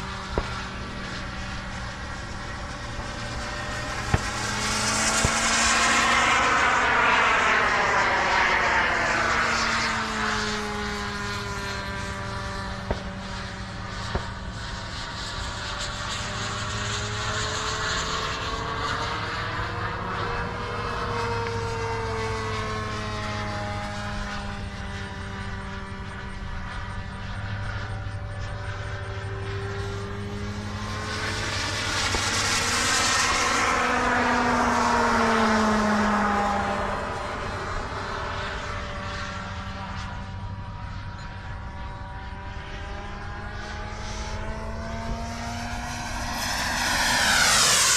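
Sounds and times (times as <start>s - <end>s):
model airplane motor drone: 0.0s - 47.9s.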